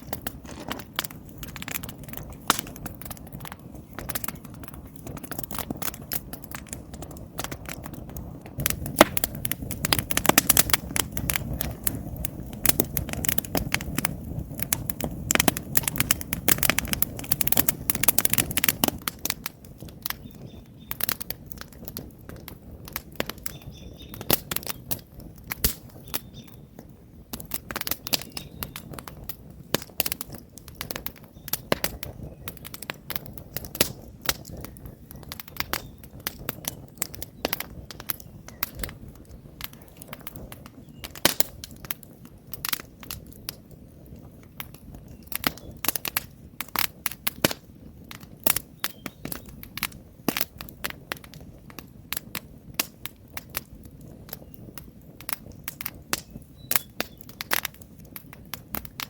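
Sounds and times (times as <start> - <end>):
campfire crackling and popping: 0.0 - 59.0
low rushing of flames: 0.0 - 59.0.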